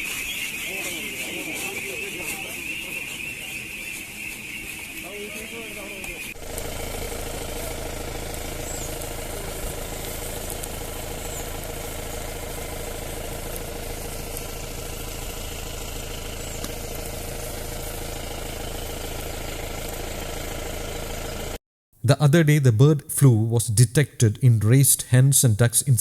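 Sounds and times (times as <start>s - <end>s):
mechanical drone with low hum: 0.1s - 21.6s.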